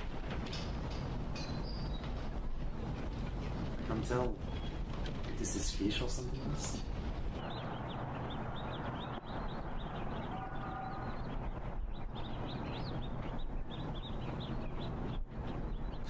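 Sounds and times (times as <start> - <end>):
small birds chirping: 0.0 - 16.0
steady background hum: 0.0 - 16.0.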